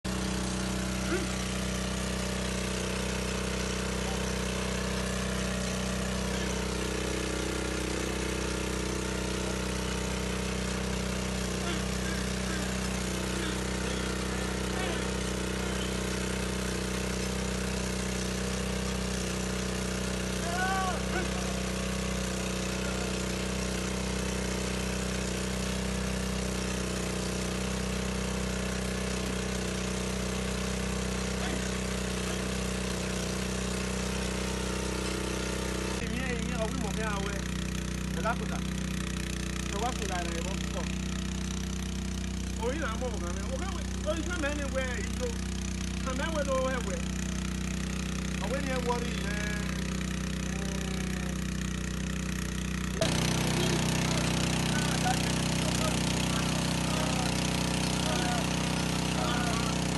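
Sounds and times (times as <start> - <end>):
small engine pump running: 0.0 - 59.9.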